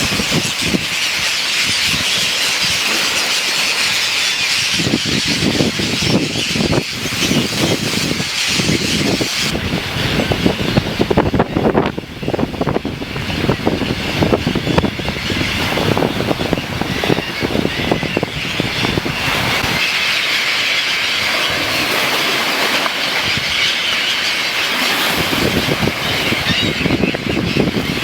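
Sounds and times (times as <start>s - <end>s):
wind buffeting microphone: 0.0s - 3.1s, 3.9s - 19.9s, 21.1s - 28.0s.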